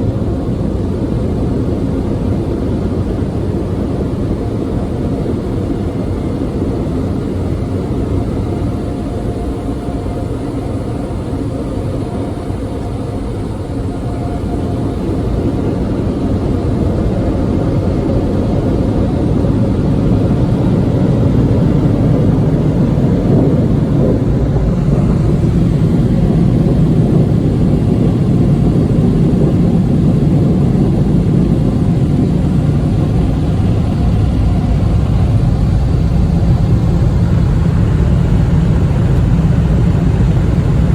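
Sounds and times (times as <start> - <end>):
car wash dryer blowers rushing: 3.5 - 40.9.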